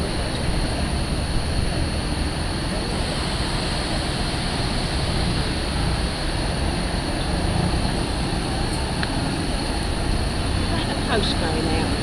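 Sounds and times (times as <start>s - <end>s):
high fan whine: 0.0s - 12.0s
hovercraft engine rumble: 0.0s - 12.0s.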